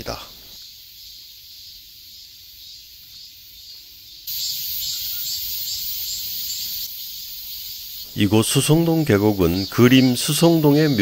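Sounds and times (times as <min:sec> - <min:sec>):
insect chorus hissing: 0:00.0 - 0:11.0.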